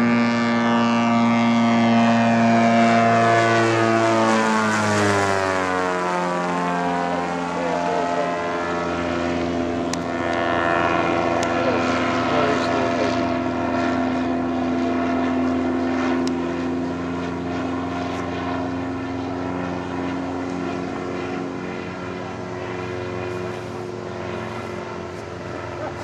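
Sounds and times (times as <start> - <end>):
propeller aircraft flyby: 0.0 - 26.0.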